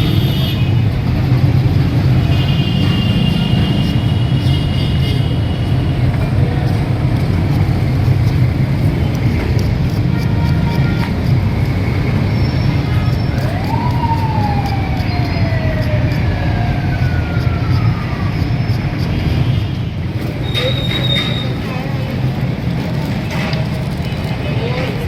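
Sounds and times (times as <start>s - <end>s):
street traffic rumbling: 0.0s - 25.0s.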